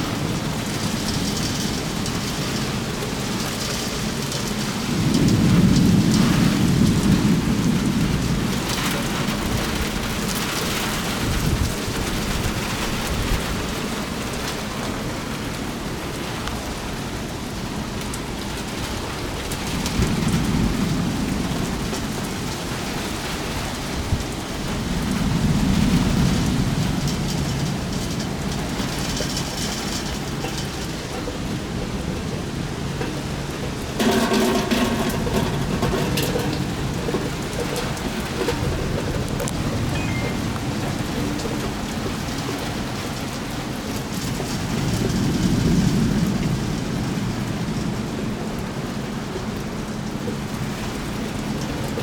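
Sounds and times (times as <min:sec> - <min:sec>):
rolling thunder: 0:00.0 - 0:14.4, 0:18.7 - 0:49.0
steady rain falling: 0:00.0 - 0:52.0.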